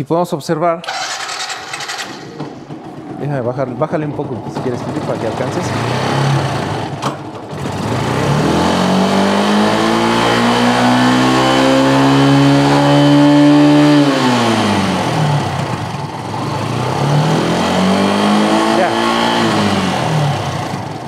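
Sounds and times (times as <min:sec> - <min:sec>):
motorcycle engine revving: 0:00.8 - 0:21.0.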